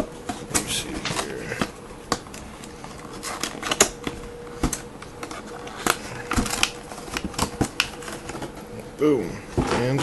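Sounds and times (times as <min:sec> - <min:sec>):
packaging crackling and snapping: 0:00.3 - 0:08.8.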